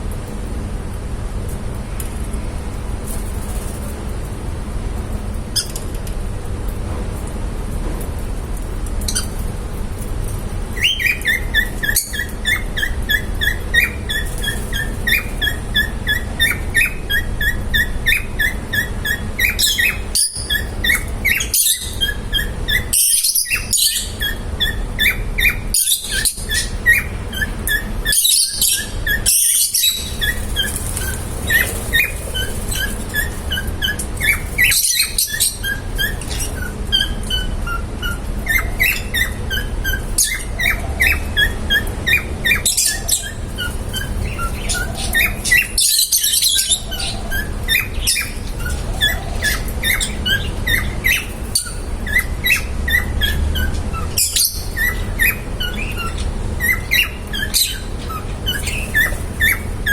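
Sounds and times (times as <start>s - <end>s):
lovebirds chirping: 10.5s - 59.9s
harsh bird screeching: 10.8s - 59.9s.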